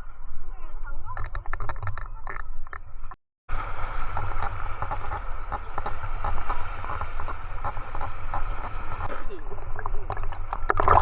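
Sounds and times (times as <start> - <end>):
sea water and wind rumble: 0.0 - 11.0
crackles and clicks: 1.1 - 11.0.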